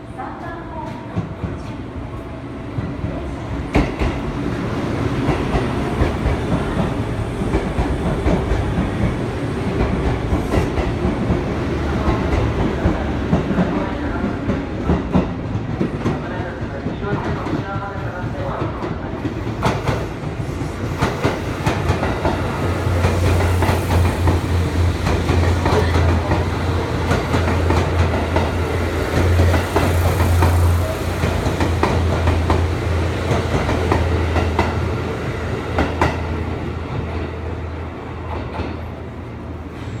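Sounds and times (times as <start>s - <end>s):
electric train passing: 0.0s - 16.7s, 18.2s - 40.0s.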